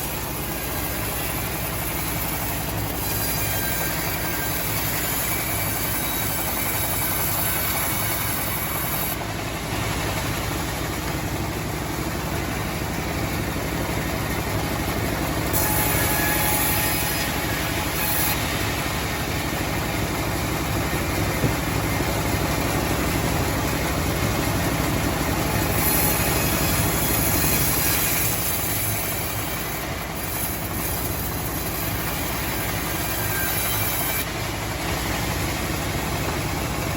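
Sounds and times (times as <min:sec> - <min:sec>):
sawmill mechanical drone: 0:00.0 - 0:36.9.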